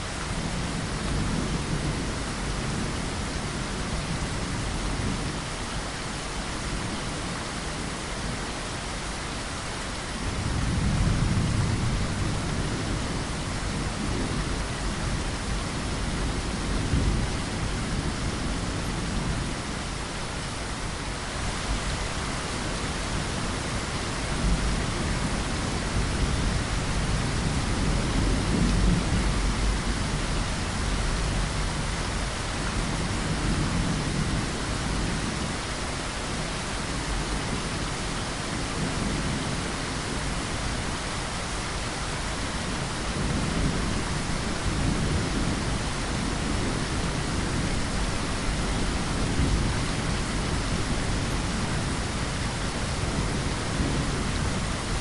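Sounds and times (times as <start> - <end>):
heavy rain: 0.0 - 55.0
low rolls of thunder: 0.2 - 5.5, 10.2 - 19.8, 22.0 - 40.9, 42.6 - 55.0.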